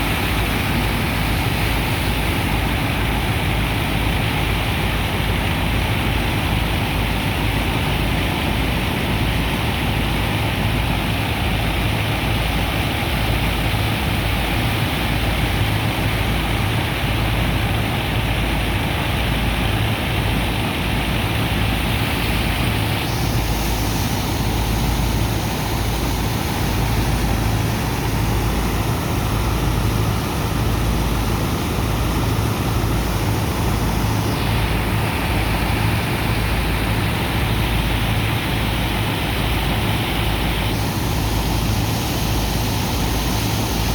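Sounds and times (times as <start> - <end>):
engine and pump running: 0.0 - 43.9.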